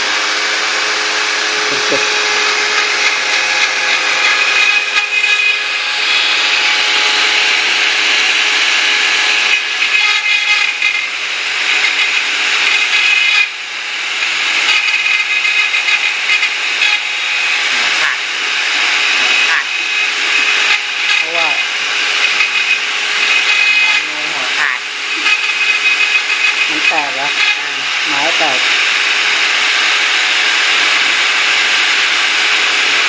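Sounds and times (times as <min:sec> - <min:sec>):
rasping cutting noise: 0:00.0 - 0:33.0
router spindle whine: 0:00.0 - 0:33.0.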